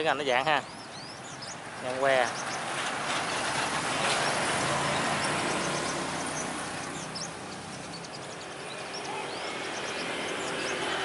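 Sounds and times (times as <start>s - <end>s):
high bird chirps: 0.0s - 11.0s
road traffic hiss: 0.0s - 11.0s.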